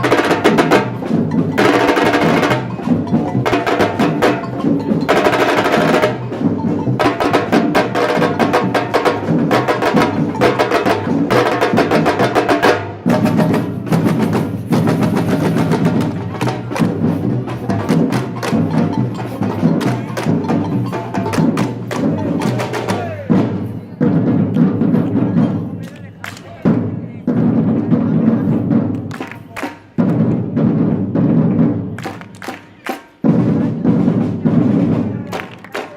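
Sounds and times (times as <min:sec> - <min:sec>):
samba percussion ensemble drumming: 0:00.0 - 0:35.9.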